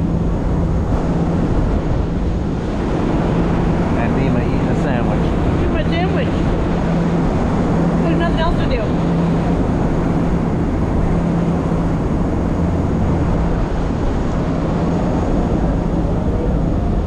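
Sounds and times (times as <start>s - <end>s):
boat engine drone: 0.0s - 17.0s
wind and water rushing: 0.0s - 17.0s.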